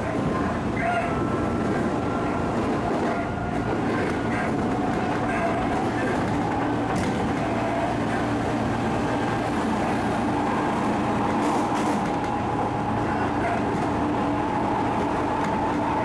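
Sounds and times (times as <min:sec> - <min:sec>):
passing train: 0:00.0 - 0:16.0
train interior rumble: 0:00.0 - 0:16.0.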